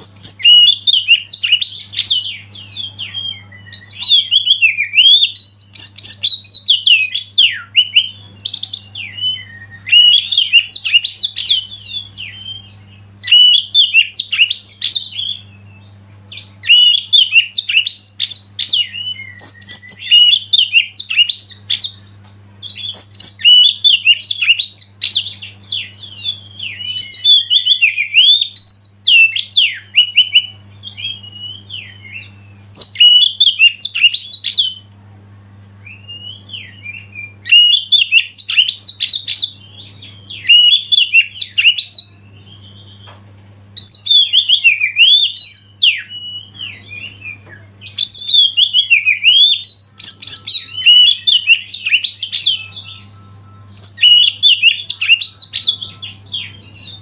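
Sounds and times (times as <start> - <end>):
bird singing whistled notes: 0.0 - 34.8, 35.8 - 57.0.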